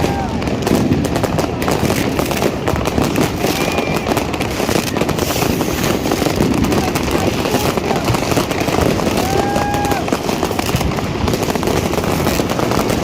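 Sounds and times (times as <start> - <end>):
firework whistle: 0.0 - 13.0
fireworks crackling and banging: 0.0 - 13.0.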